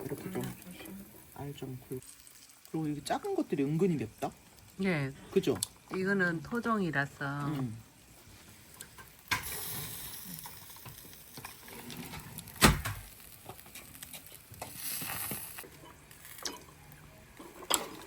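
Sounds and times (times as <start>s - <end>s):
barbecue fire sizzling and crackling: 0.0s - 18.0s.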